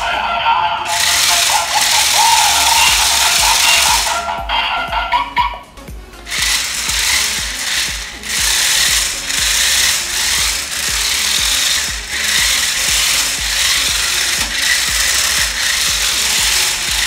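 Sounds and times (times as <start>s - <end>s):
toy car electric motors whirring: 0.0s - 5.4s, 6.2s - 17.0s
ratcheting clatter of gears and wheels: 0.9s - 4.5s, 6.2s - 17.0s.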